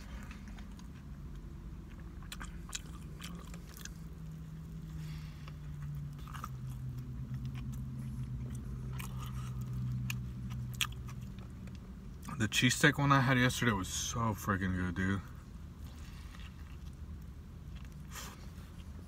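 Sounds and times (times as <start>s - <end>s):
biting and chewing sandwich: 0.0s - 12.4s, 15.7s - 19.0s
steady low hum: 0.0s - 19.0s.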